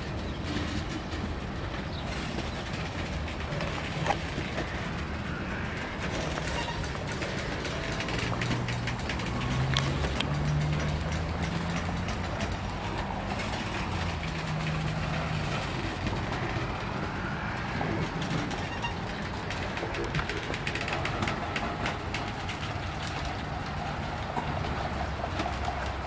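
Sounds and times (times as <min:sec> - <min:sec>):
clicks and clanks: 0:00.0 - 0:26.0
low diesel engine drone: 0:00.0 - 0:26.0
train rail rumble: 0:00.0 - 0:26.0.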